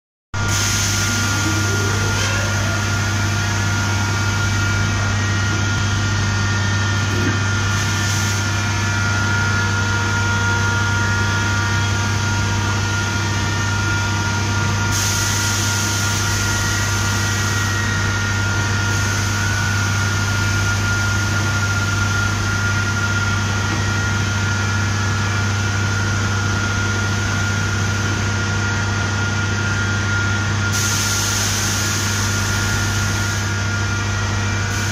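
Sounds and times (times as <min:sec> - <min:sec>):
machine high whine: 0:00.4 - 0:34.9
machine low hum: 0:00.4 - 0:34.9.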